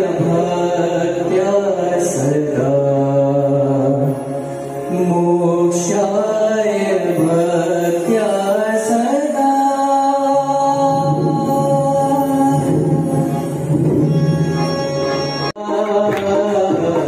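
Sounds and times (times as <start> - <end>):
man singing into microphone: 0.0 - 13.9, 15.6 - 17.0
electronic keyboard chords: 0.0 - 15.6.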